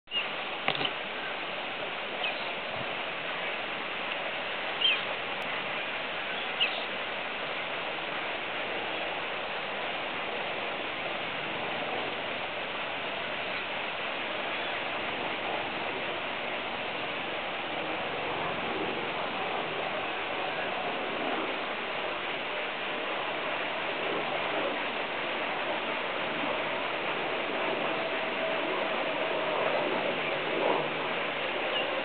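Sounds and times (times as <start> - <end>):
outdoor background hiss: 0.1 - 32.0.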